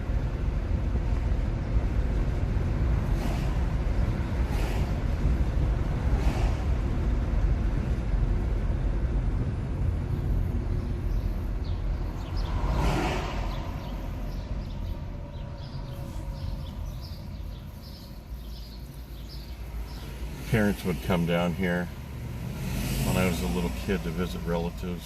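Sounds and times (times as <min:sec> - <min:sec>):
car road and tyre rumble: 0:00.0 - 0:25.0.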